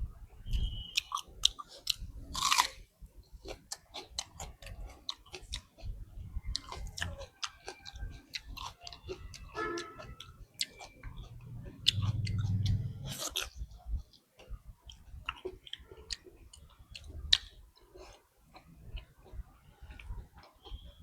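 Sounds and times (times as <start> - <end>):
chewing with wet mouth smacks: 0.4 - 21.0.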